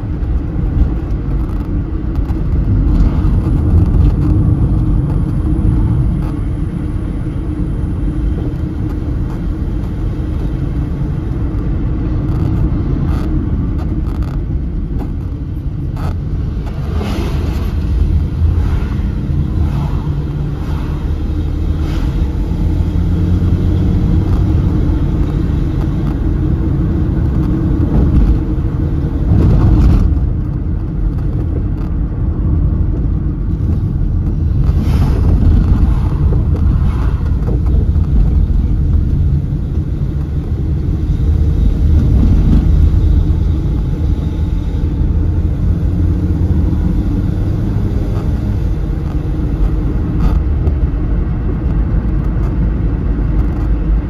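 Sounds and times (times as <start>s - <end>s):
car road noise rumble: 0.0s - 54.0s
oncoming traffic passing: 0.0s - 54.0s.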